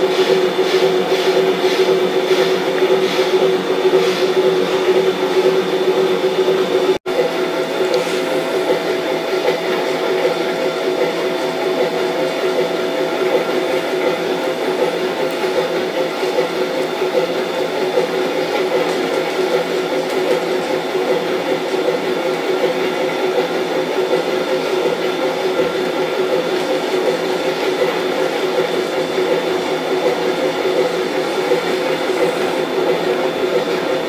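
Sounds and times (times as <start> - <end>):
model train wheel noise: 0.0 - 34.0.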